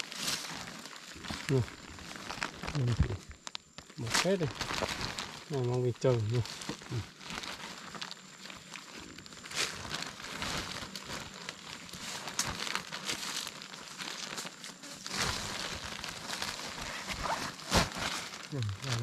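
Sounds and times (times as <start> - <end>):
sack rustling and crinkling: 0.0 - 19.0.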